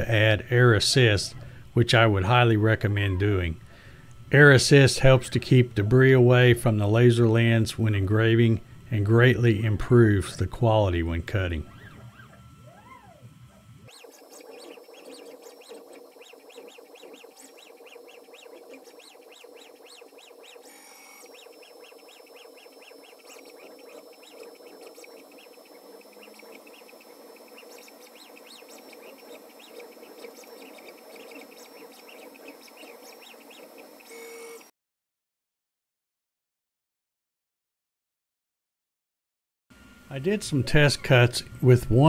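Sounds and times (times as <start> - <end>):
stepper motors chirping and whining: 0.0 - 34.7, 39.8 - 42.0.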